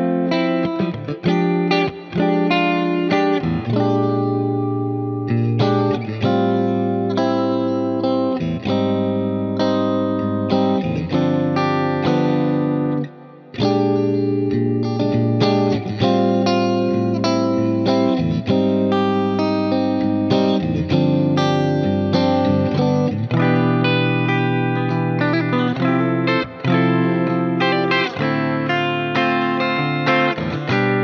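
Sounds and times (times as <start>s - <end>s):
electric guitar with delay and reverb: 0.0s - 31.0s.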